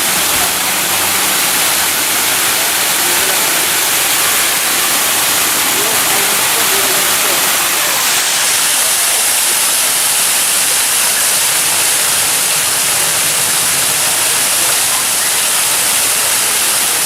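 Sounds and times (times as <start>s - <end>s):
loud rushing hiss: 0.0s - 17.0s.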